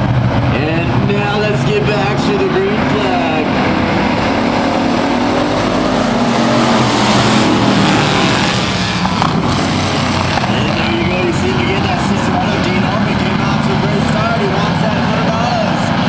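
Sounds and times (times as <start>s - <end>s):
race truck engines: 0.0s - 16.0s.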